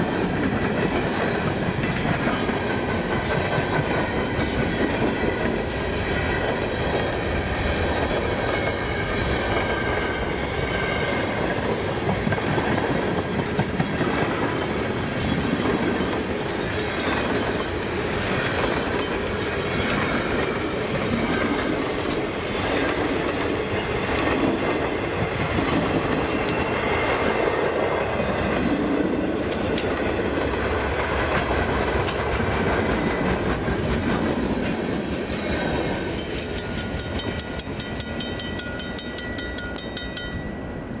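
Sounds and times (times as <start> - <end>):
train wheels clacking on rails: 0.0 - 41.0.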